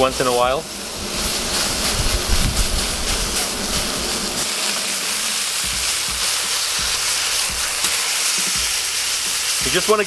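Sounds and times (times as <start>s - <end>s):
steak sizzling in a frying pan: 0.0s - 10.0s.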